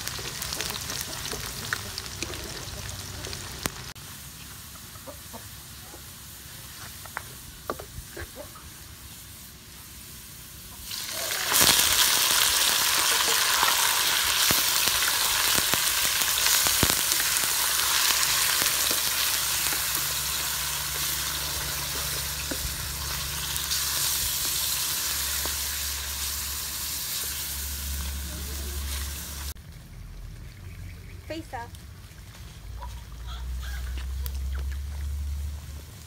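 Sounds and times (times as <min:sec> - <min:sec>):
chicken sizzling in hot oil: 0:00.0 - 0:29.6.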